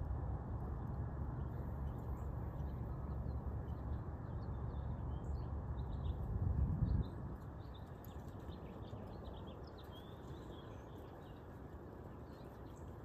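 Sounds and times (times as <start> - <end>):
small birds chirping: 1.4 - 13.0.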